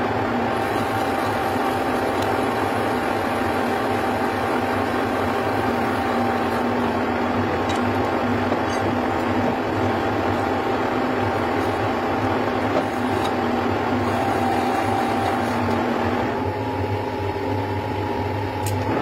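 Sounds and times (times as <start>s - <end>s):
metal lathe humming and whining: 0.0s - 19.0s.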